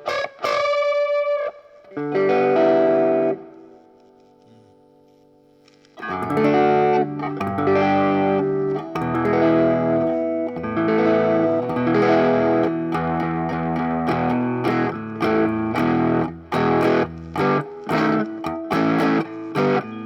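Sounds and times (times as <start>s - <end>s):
electric guitar chords: 0.0s - 5.4s, 6.0s - 20.0s.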